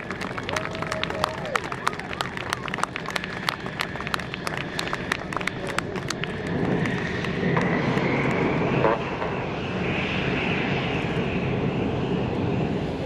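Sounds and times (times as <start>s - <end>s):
aircraft engine rumbling and whining: 0.0s - 13.0s.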